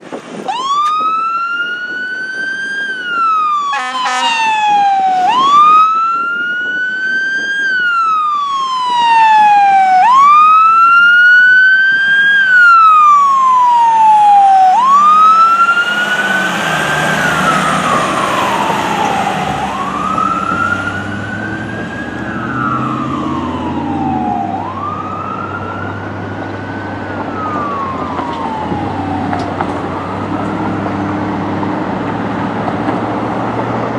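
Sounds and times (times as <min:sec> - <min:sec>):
road noise rumble: 0:00.0 - 0:33.9
fire engine siren wailing: 0:00.1 - 0:33.9.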